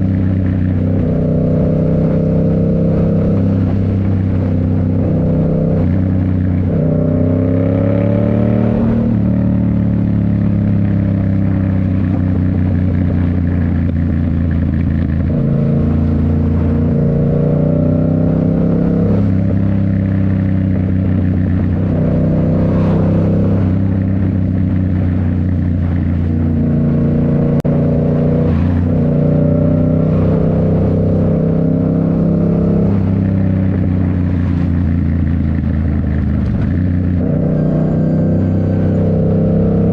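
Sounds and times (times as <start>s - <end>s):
motorcycle engine through gears: 0.0s - 39.9s.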